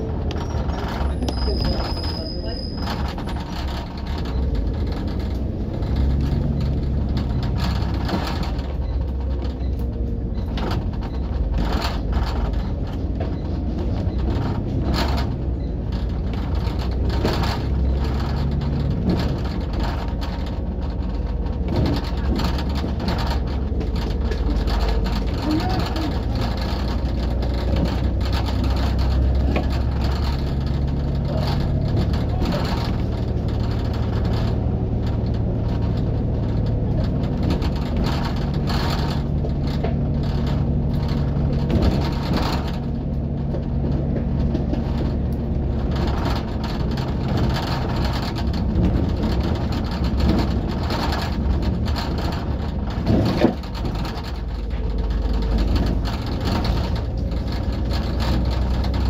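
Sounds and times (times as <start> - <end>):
bus engine and road drone: 0.0 - 59.0
interior rattles: 0.0 - 59.0.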